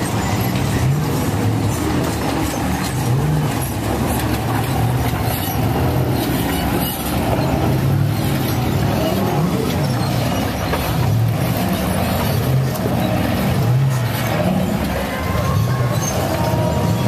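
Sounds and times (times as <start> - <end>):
off-road buggy engines revving: 0.0 - 17.0.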